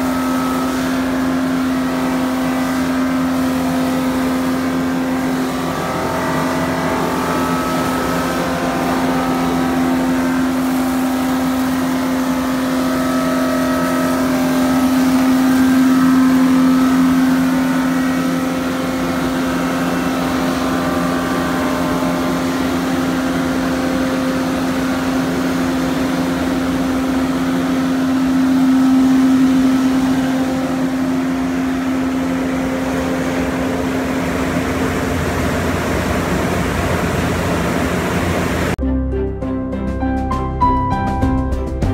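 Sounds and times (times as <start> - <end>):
lathe machine hum: 0.0 - 38.8.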